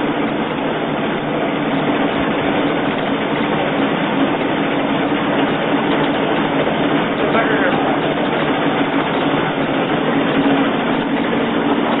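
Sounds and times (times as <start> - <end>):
grinding mill running: 0.0 - 12.0.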